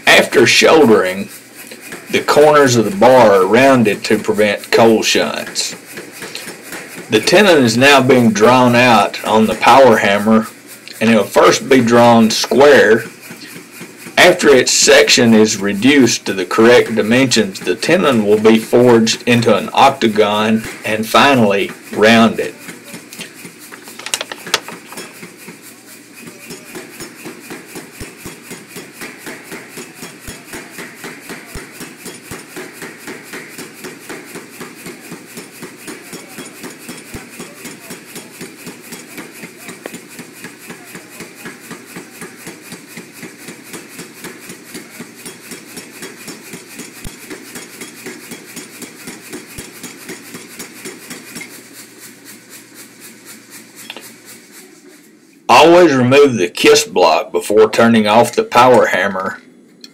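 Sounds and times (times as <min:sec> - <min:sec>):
power hammer striking hot steel: 0:00.0 - 0:54.5.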